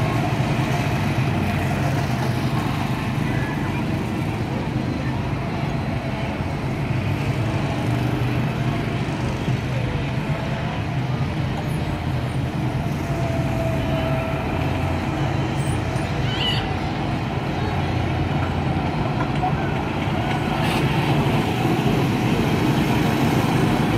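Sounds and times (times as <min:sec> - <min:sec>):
go-kart engines running: 0:00.0 - 0:23.9.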